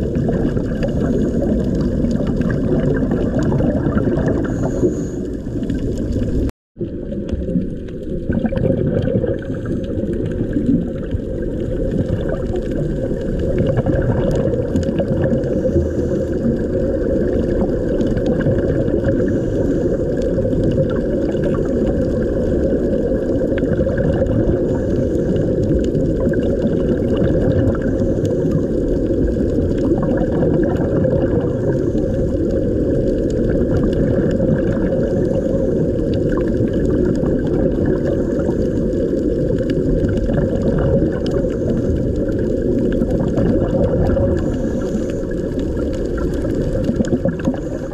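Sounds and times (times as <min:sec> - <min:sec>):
underwater bubbling: 0:00.0 - 0:47.9
underwater churning rumble: 0:00.0 - 0:47.9.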